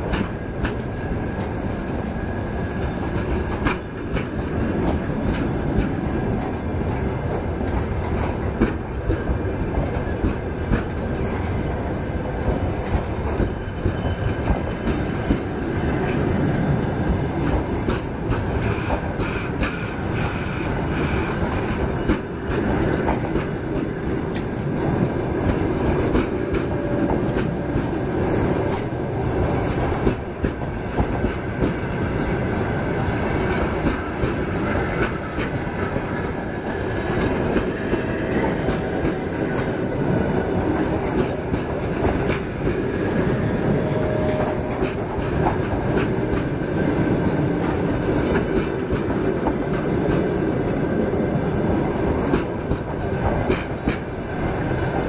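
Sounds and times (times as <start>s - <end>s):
train running gear rumble: 0.0s - 55.0s
train wheels clicking over rail joints: 0.0s - 55.0s.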